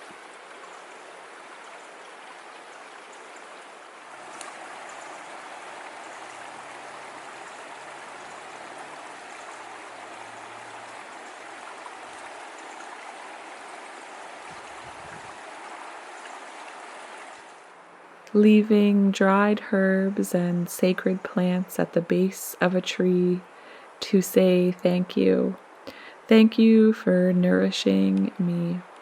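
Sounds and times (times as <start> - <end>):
stream flowing water: 0.0 - 29.0.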